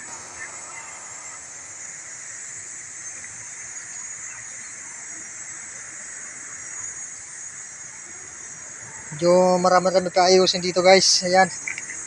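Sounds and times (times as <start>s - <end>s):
high-pitched outdoor hiss: 0.0s - 12.0s.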